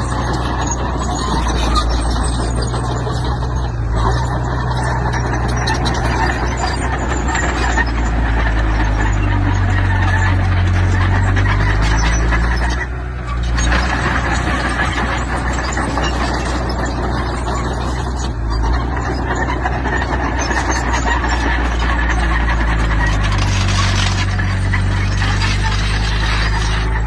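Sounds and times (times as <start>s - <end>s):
diesel engine running: 0.0s - 27.0s
rattling scraping clatter: 0.0s - 27.0s.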